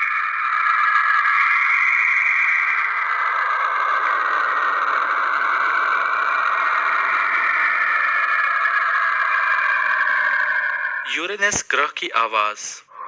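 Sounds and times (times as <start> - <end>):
steady hissing drone: 0.0 - 13.0.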